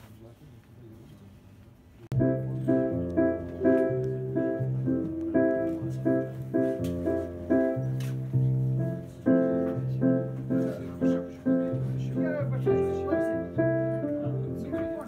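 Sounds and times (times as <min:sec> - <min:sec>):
piano chords: 0:02.1 - 0:15.0.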